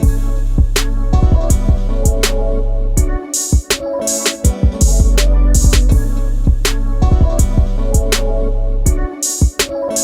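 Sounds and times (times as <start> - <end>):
music with drums and heavy bass: 0.0 - 10.0.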